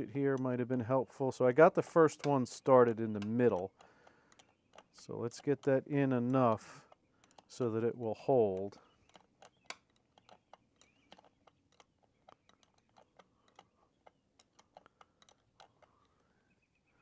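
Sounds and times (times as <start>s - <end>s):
wrench clicks and taps on bolt: 0.3s - 16.3s.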